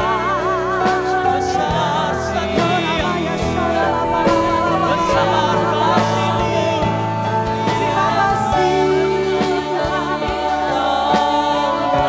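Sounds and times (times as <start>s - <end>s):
bass: 0.0s - 12.0s
keyboard: 0.0s - 12.0s
people singing: 0.0s - 12.0s.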